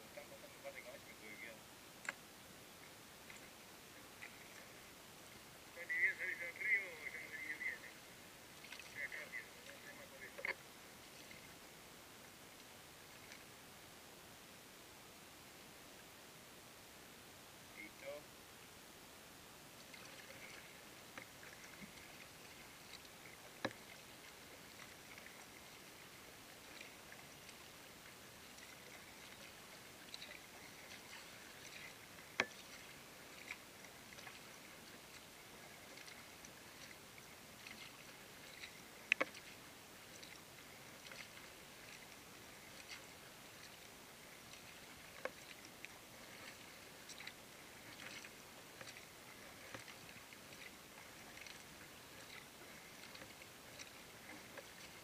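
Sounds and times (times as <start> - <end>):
faint hiss: 0.0 - 55.0
small waves lapping on kayak hull: 0.0 - 55.0.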